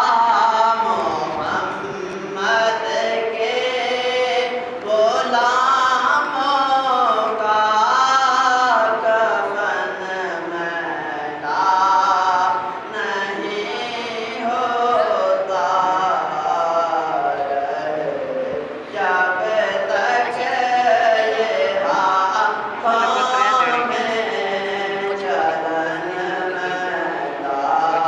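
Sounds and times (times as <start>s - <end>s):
man singing devotional song: 0.0s - 28.0s.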